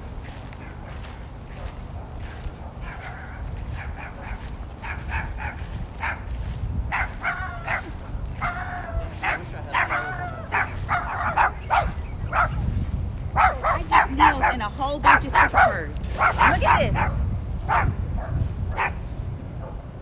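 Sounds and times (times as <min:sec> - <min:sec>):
small dog barking: 0:00.6 - 0:12.7, 0:13.3 - 0:19.0.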